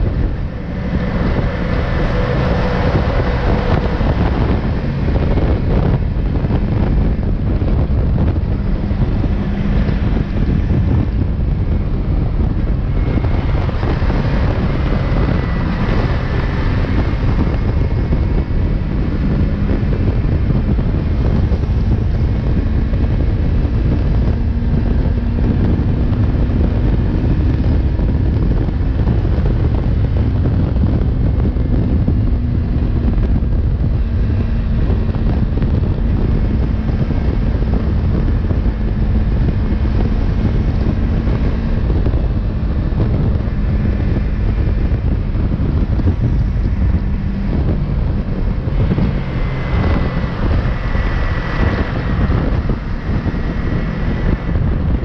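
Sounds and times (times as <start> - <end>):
heavy wind noise on microphone: 0.0 - 55.0
motorcycle engine running steadily: 0.0 - 55.0.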